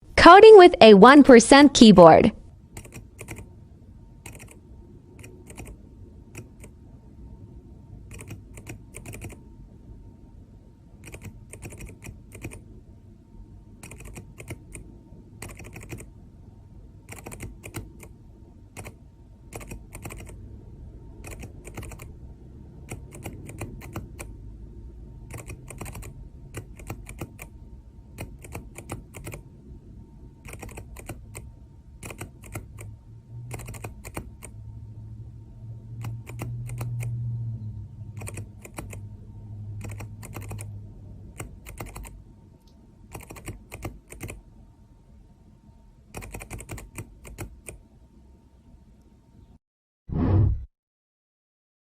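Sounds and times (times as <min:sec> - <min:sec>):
low steady hum: 0:00.0 - 0:49.6.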